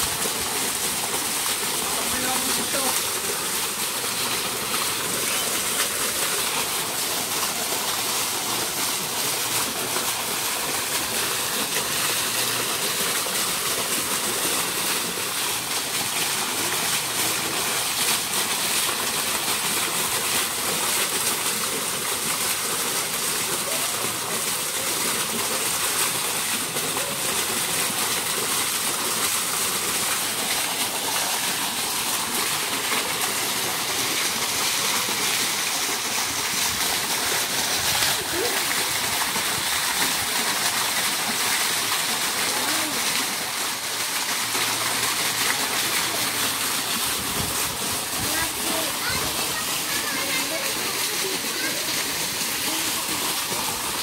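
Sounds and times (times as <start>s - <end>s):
fountain splashing into water: 0.0s - 54.0s.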